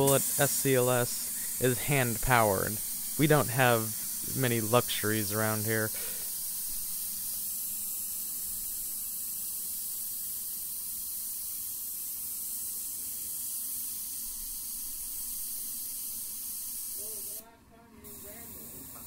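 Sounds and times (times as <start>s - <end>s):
steam hissing: 0.0s - 17.4s.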